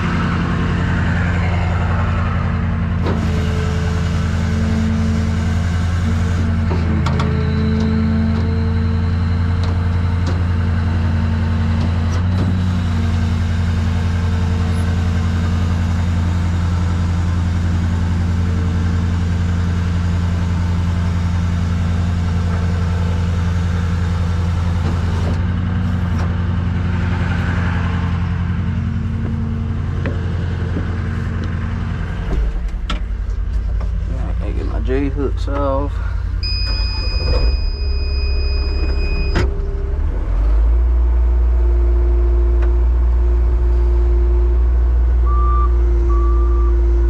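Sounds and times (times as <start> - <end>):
tow truck engine running: 0.0 - 47.0.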